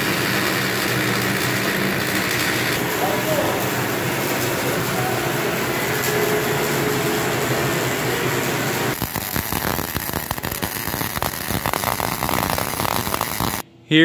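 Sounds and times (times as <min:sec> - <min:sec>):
arc welding hiss and crackle: 0:00.0 - 0:13.6.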